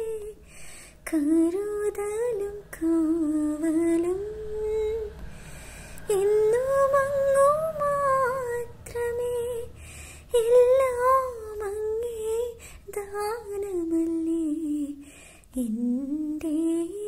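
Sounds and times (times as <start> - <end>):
woman singing unaccompanied: 0.0 - 0.4, 1.0 - 5.2, 6.1 - 17.0.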